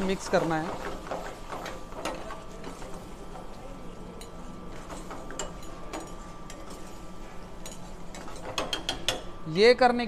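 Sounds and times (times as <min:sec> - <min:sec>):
ladle stirring thick gravy: 0:00.0 - 0:09.4
steady low hum: 0:00.0 - 0:10.0.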